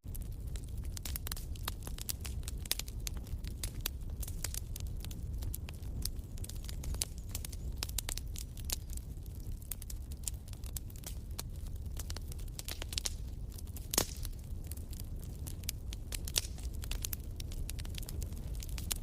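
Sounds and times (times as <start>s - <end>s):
fire crackling: 0.0s - 19.0s
low rumble of flame: 0.0s - 19.0s.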